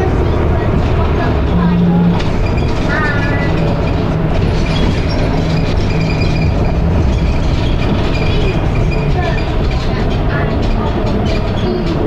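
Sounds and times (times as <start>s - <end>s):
bus engine droning with rattles: 0.0s - 12.0s.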